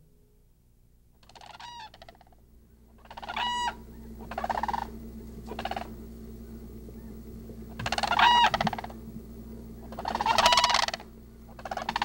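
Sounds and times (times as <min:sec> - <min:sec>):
cranes calling: 0:01.2 - 0:12.0.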